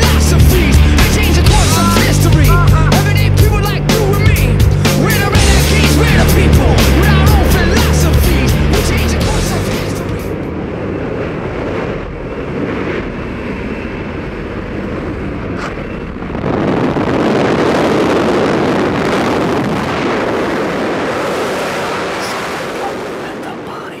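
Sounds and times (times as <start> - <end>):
plane engine noise: 0.0 - 24.0
wind rushing: 0.0 - 24.0.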